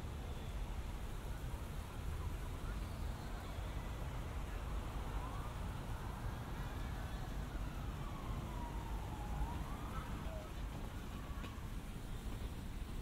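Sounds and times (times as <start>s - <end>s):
siren wailing faintly: 1.2s - 12.2s.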